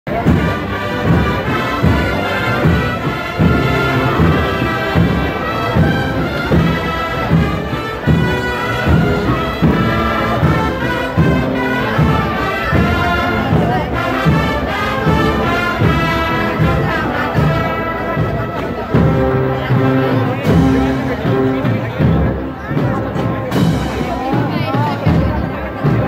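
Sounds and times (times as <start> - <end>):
brass band playing a march: 0.1 - 26.0.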